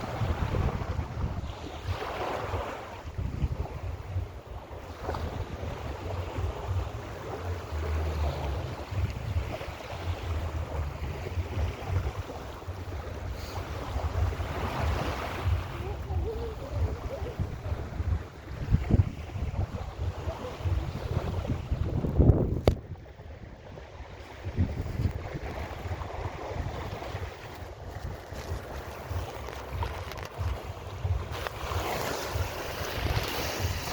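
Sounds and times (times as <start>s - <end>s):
waves breaking on sandy beach: 0.0s - 33.9s
wind buffeting microphone: 0.0s - 33.9s.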